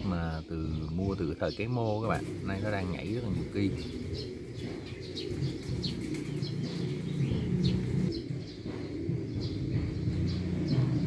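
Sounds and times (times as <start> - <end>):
dove cooing: 0.0 - 11.0
high bird chirps: 0.0 - 11.0.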